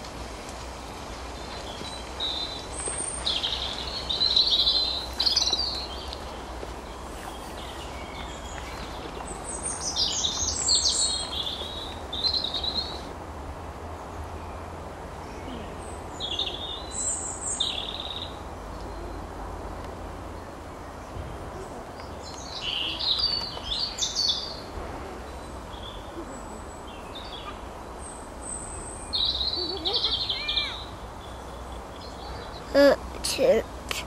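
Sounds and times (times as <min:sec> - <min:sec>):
songbird chirping: 0:00.0 - 0:34.0.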